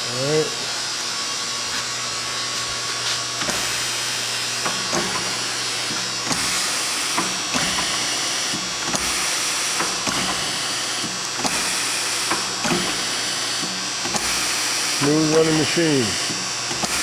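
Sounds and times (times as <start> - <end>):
orbital riveter humming: 0.0 - 17.0.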